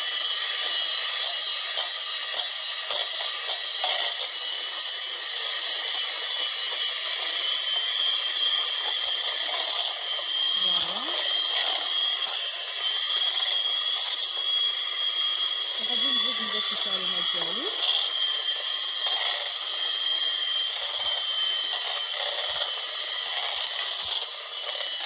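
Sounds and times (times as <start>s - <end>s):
electric hand mixer whisking batter: 0.0s - 25.0s.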